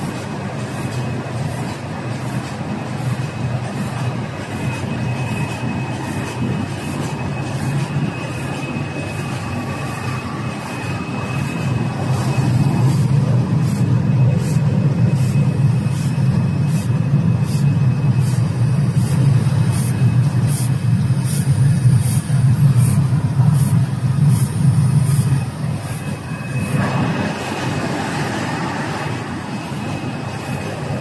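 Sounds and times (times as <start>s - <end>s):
thin high whine: 0.0s - 31.0s.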